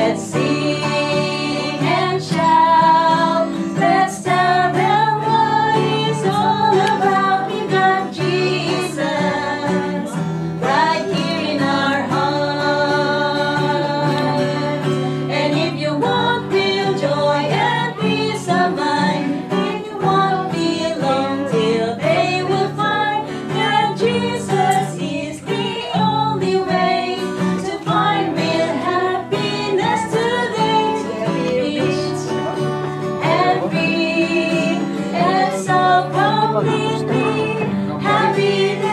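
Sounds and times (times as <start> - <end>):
instrumental accompaniment: 0.0 - 38.9
voices singing praise song: 0.0 - 38.9.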